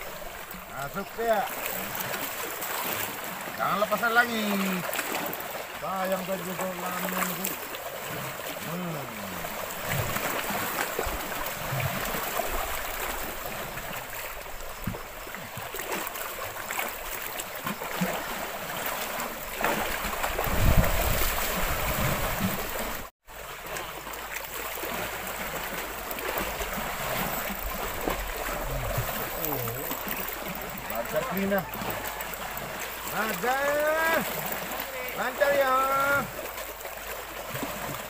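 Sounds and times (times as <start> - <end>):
water lapping against rocks: 0.0 - 38.0.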